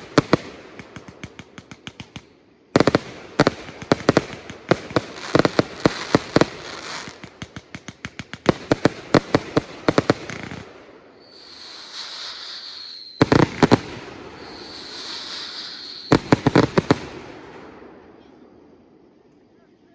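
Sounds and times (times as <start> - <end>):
hissing crackle: 0.0 - 19.5.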